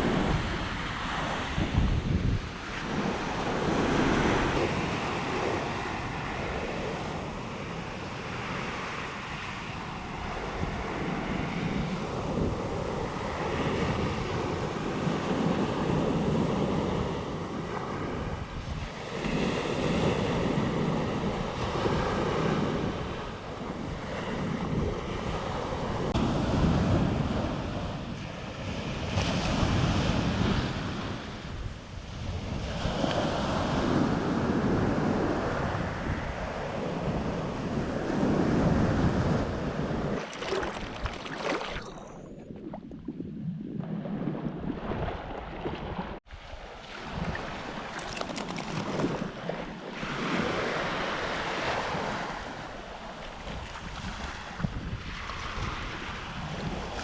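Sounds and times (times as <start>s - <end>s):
ocean waves washing on a beach: 0.0s - 57.0s
wind buffeting the microphone: 0.0s - 57.0s.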